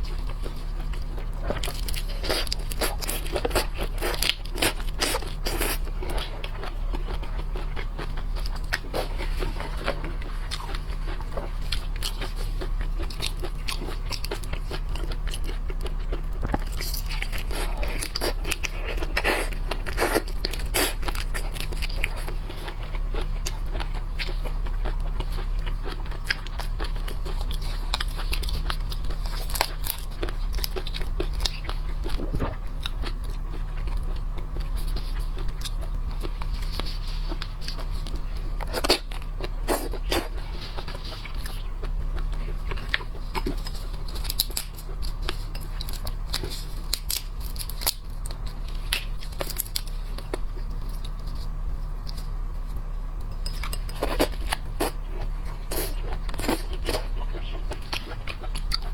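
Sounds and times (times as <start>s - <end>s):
person biting and crunching food: 0.0s - 58.9s
steady low hum: 0.0s - 58.9s.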